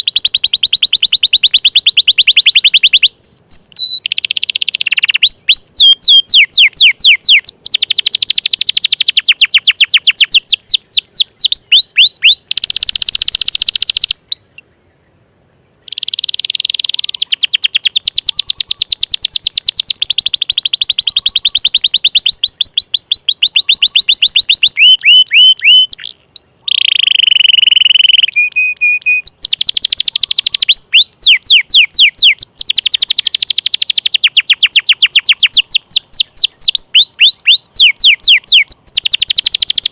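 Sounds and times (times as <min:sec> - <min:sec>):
canary singing trills: 0:00.0 - 0:14.7, 0:15.8 - 0:39.9.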